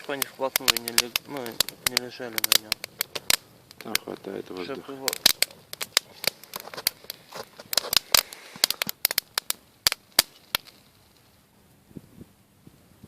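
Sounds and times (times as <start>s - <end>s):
twigs crackling in campfire: 0.0s - 11.8s.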